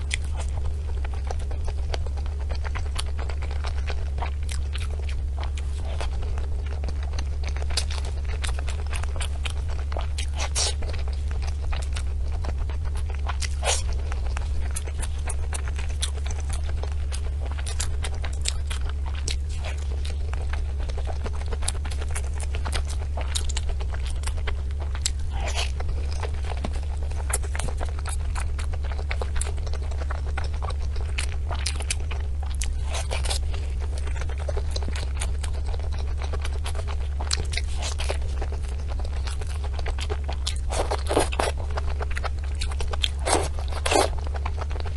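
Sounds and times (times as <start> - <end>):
crisp crunches and chewing: 0.0 - 44.9
steady low hum: 0.0 - 44.9.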